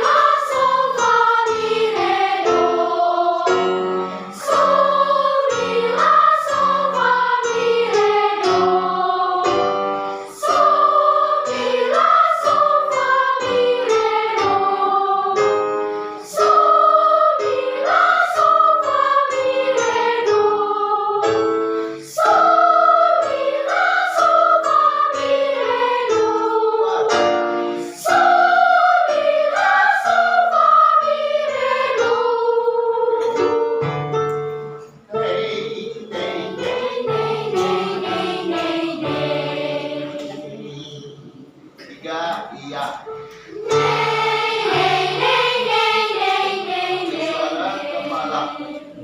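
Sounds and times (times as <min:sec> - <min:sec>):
children's choir singing: 0:00.0 - 0:41.8, 0:43.1 - 0:49.0
piano accompaniment: 0:00.0 - 0:49.0.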